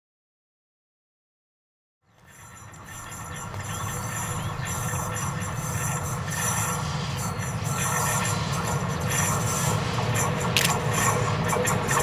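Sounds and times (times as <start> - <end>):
train rumbling on rails: 2.0 - 12.0
thin high squeal: 2.1 - 12.0.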